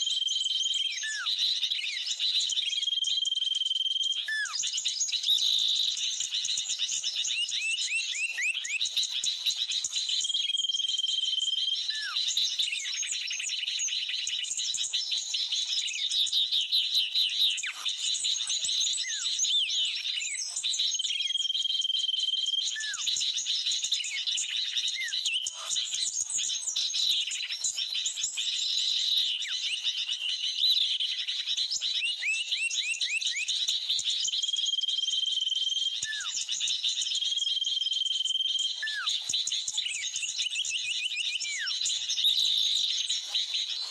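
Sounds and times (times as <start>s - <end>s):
chorus of chirping birds: 0.0s - 43.9s.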